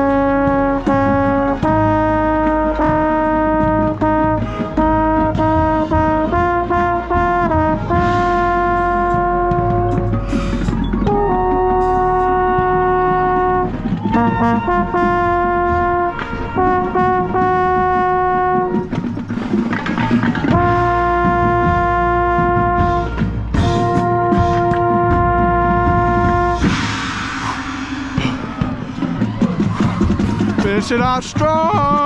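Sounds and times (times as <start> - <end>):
trombone playing: 0.0 - 19.2, 20.5 - 28.9
marching band brass: 0.0 - 32.0.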